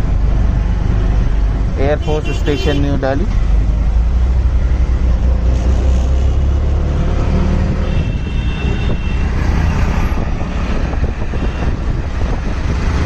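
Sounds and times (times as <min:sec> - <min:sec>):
auto-rickshaw engine rumbling: 0:00.0 - 0:13.0
road and wind noise: 0:00.0 - 0:13.0.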